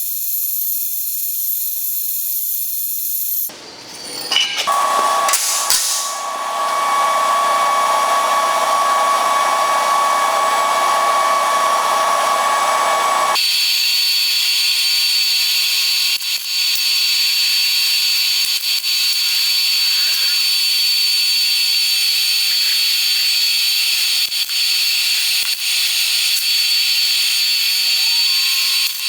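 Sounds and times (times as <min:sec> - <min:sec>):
power tool motor whine: 0:04.7 - 0:29.0.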